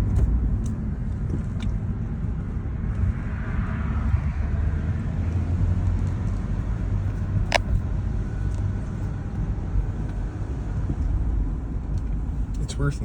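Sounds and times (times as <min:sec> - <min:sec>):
road tyre and wind noise: 0:00.0 - 0:13.0.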